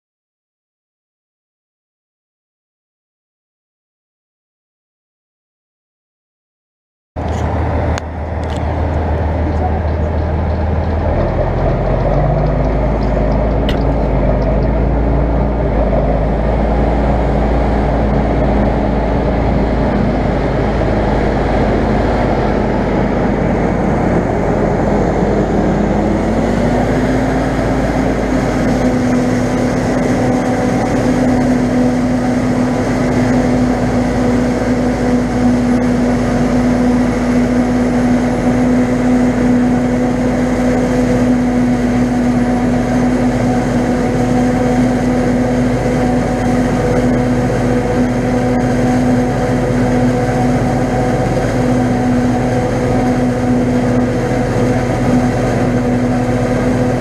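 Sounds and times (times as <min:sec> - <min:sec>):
forage harvester working: 0:07.2 - 0:57.0
tractor diesel engine running: 0:07.2 - 0:57.0.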